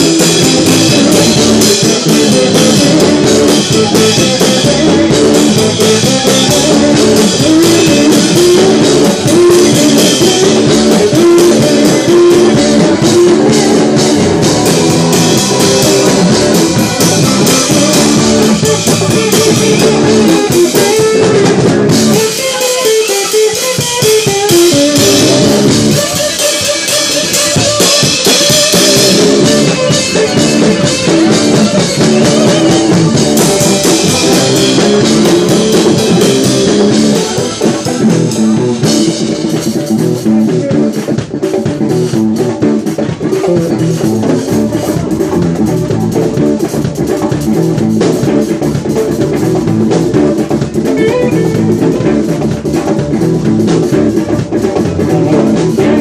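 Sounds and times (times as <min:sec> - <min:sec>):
bass guitar: 0:00.0 - 0:56.0
congas: 0:00.0 - 0:56.0
drum kit with cymbals: 0:00.0 - 0:56.0
electric guitar: 0:00.0 - 0:56.0
steel guitar: 0:00.0 - 0:56.0.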